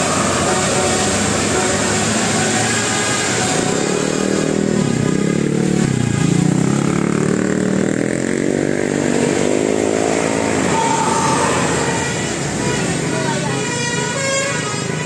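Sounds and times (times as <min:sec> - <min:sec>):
vehicle engine revving: 0:00.0 - 0:13.4
traffic noise: 0:00.0 - 0:15.0.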